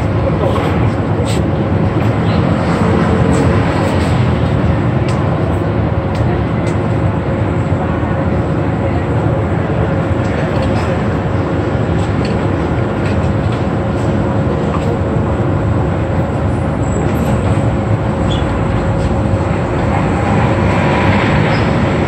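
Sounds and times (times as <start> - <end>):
gas burners roaring: 0.0 - 22.0.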